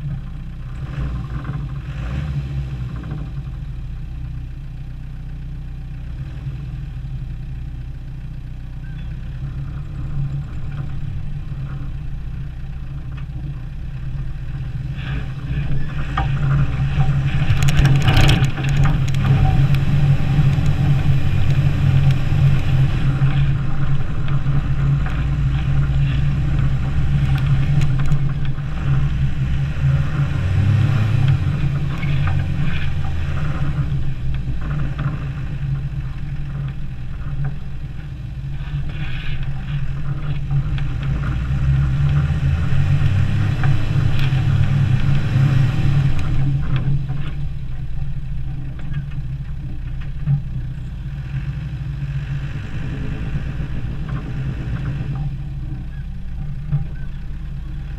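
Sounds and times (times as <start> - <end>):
car engine driving through snow: 0.0 - 57.9.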